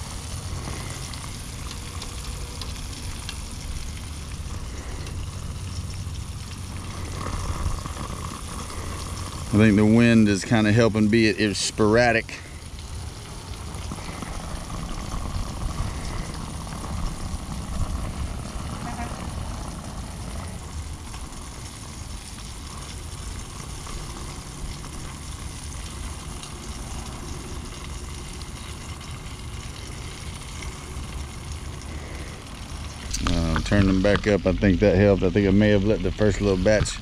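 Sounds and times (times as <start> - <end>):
fish deep-frying in oil: 0.0 - 37.0.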